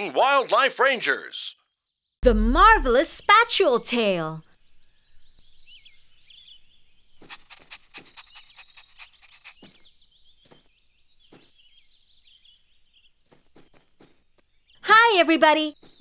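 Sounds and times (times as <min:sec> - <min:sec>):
small birds chirping: 0:01.6 - 0:16.0.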